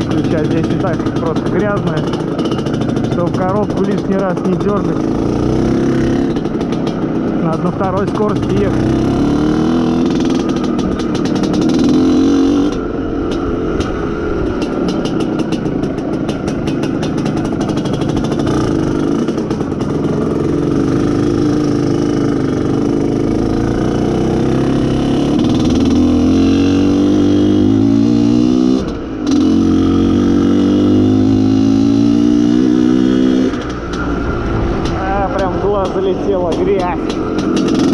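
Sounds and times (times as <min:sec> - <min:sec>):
two-stroke motorcycle engine: 0:00.0 - 0:37.9.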